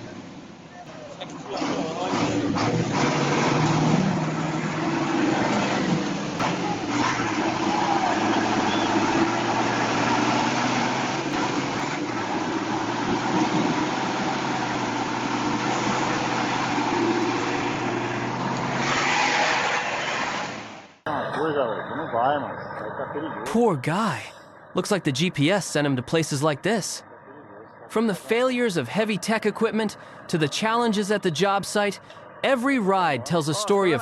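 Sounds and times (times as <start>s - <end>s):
heavy vehicle engine running: 0.0s - 34.0s.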